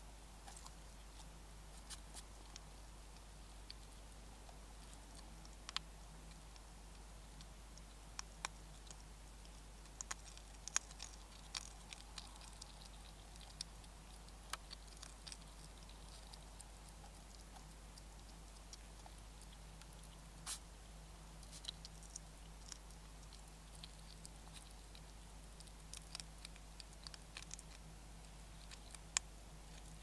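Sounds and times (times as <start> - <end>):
faint steady hum: 0.0 - 30.0
hedgehog crunching dry pellets: 0.3 - 30.0.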